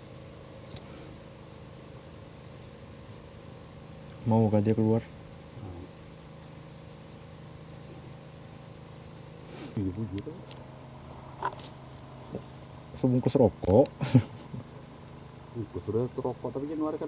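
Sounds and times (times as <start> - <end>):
insect chorus buzzing: 0.0 - 17.0.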